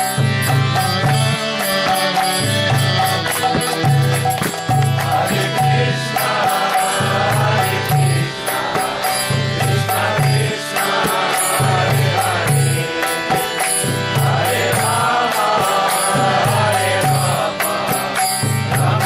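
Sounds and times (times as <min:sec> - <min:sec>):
hand cymbals ticking: 0:00.0 - 0:19.0
steady drum beat: 0:00.0 - 0:19.0
voices chanting: 0:00.0 - 0:19.0.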